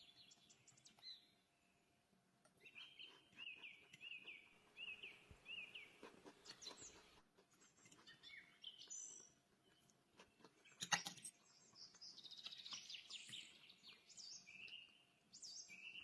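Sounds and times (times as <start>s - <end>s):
small bird chirping: 0.0s - 1.8s, 2.5s - 16.0s.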